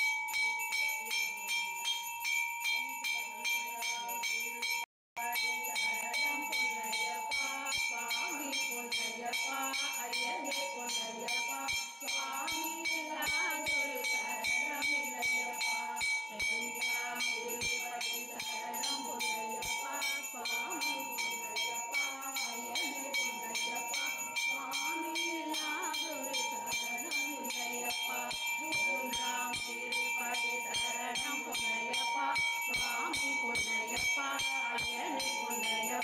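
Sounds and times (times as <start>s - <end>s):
bells ringing rapidly: 0.0s - 36.0s
devotional singing: 3.0s - 36.0s.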